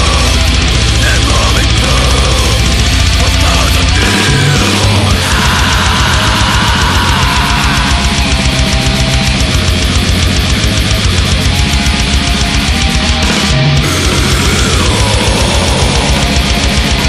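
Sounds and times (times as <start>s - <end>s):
thrash metal music: 0.0s - 17.0s.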